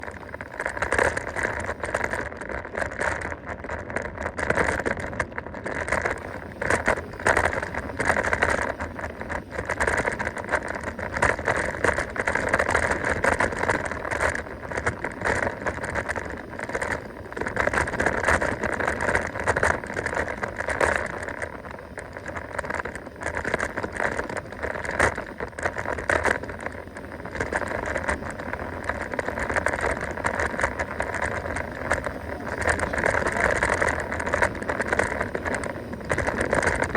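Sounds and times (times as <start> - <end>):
bike knocking and rattling: 0.0 - 36.9
bike tyres on dirt and stones: 0.0 - 36.9.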